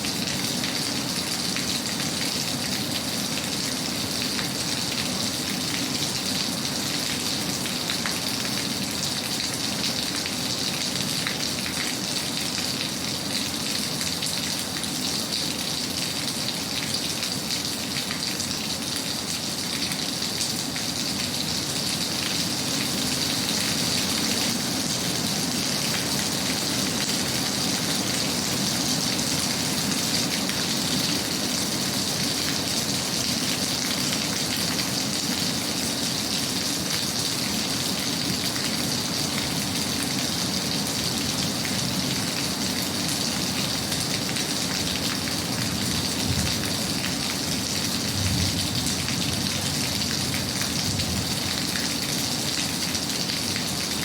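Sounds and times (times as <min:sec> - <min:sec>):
steady rain patter: 0:00.0 - 0:54.0.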